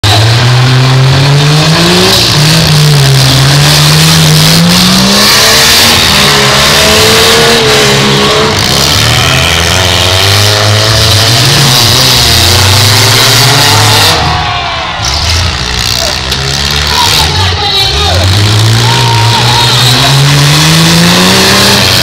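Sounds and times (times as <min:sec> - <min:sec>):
car engines revving loudly: 0:00.0 - 0:22.0.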